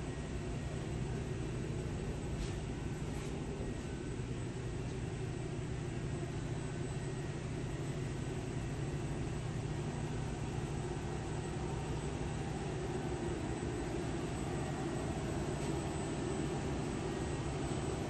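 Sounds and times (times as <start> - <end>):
industrial machinery hum: 0.0 - 18.0.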